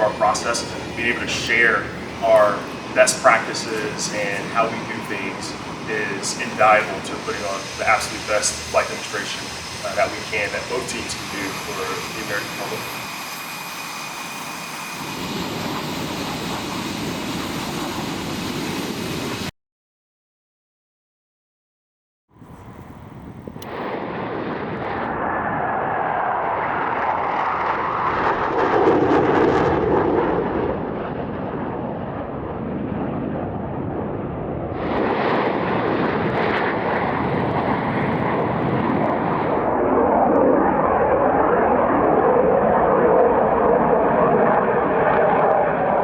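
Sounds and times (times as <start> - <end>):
jet engines roaring: 0.0 - 19.5, 22.4 - 46.0.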